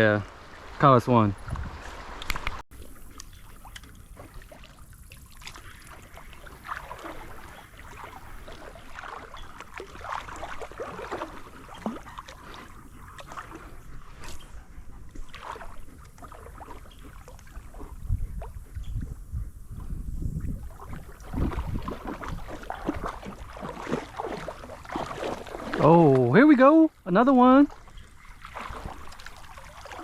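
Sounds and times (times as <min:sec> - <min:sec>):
running water: 0:00.0 - 0:19.1, 0:19.7 - 0:30.0
creek water splashing: 0:00.0 - 0:30.0.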